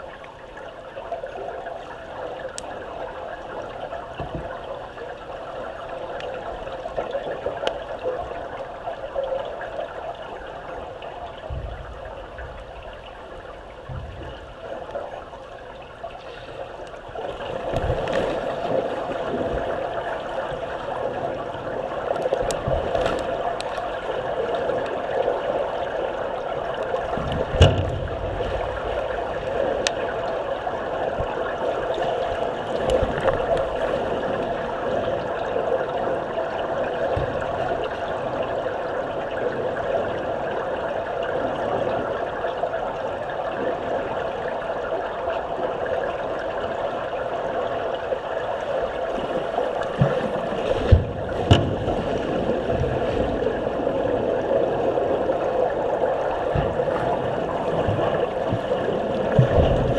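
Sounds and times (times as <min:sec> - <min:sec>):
churning water heard underwater: 0:00.0 - 0:59.9.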